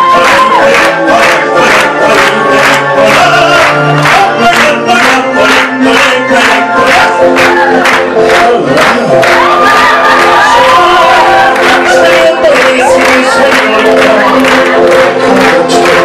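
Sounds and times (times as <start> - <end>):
audience clapping along: 0.0 - 16.0
backing music with steady beat: 0.0 - 16.0
person singing: 0.0 - 16.0.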